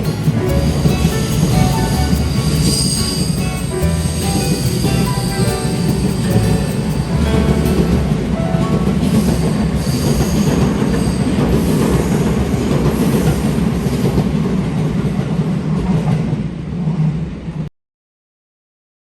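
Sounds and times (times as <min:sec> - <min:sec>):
train wheels rumbling: 0:00.0 - 0:16.8.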